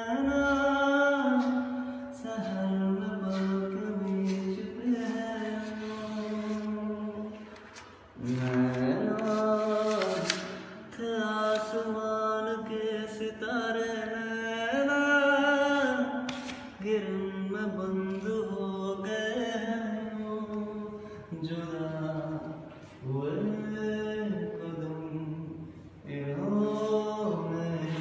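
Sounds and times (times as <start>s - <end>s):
person singing slow song: 0.0s - 28.0s.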